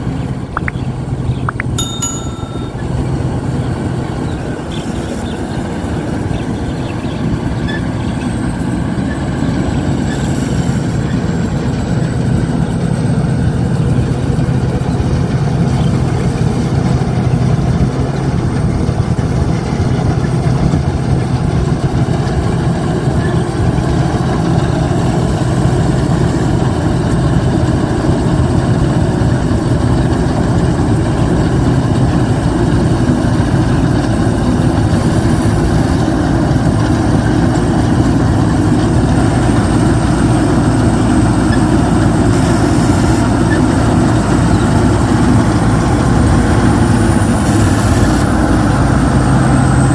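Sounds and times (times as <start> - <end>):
combine harvester mechanical din: 0.0 - 49.9
low engine hum: 0.0 - 49.9.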